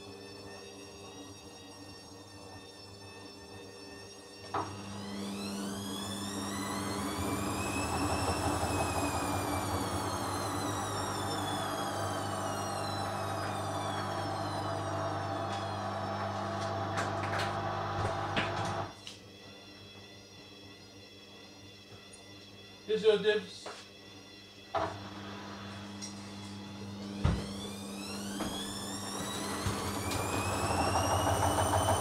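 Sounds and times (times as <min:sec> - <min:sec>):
washing machine motor whine: 0:00.0 - 0:22.9, 0:23.9 - 0:32.0.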